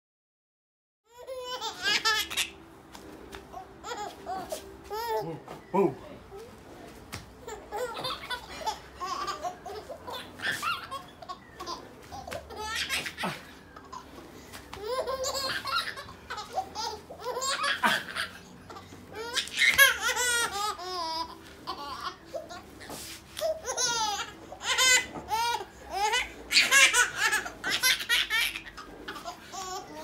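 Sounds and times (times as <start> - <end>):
baby laughing: 1.1 - 2.6, 3.5 - 5.9, 7.4 - 30.0.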